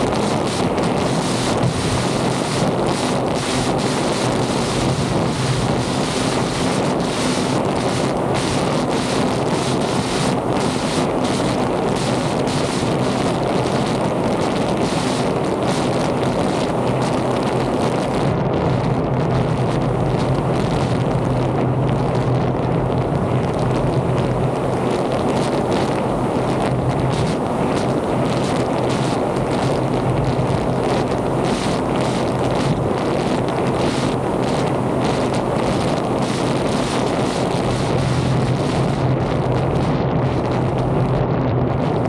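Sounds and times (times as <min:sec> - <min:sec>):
jet ski engine drone: 0:00.0 - 0:42.0
water rushing along hull: 0:00.0 - 0:42.0
wind buffeting microphone: 0:00.0 - 0:42.0.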